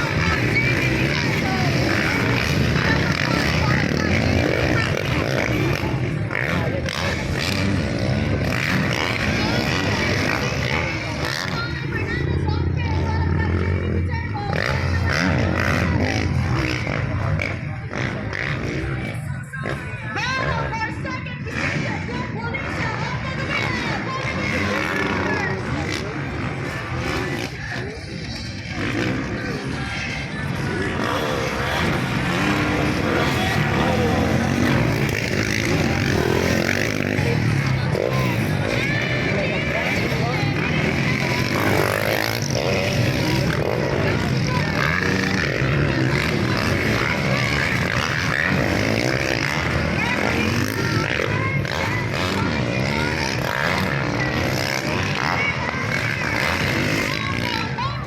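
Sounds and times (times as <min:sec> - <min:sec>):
crowd voices: 0:00.0 - 0:58.0
motocross bike engines revving: 0:00.0 - 0:58.0.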